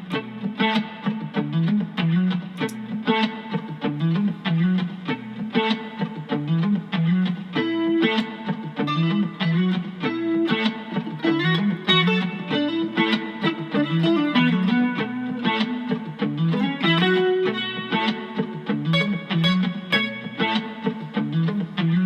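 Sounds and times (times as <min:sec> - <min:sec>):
electric guitar funk riff: 0:00.0 - 0:22.0.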